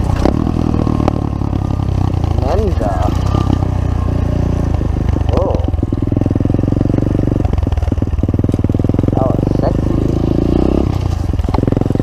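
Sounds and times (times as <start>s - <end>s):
pit bike engine droning: 0.0s - 12.0s.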